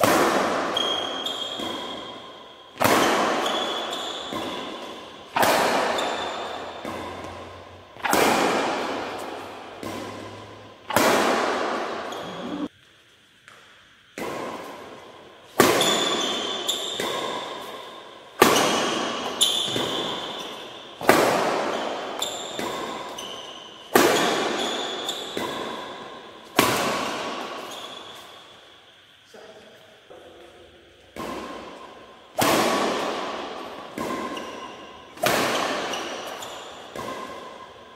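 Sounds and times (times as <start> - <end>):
racket hitting shuttlecock: 0.0 - 12.7, 13.5 - 28.7, 30.4 - 37.9.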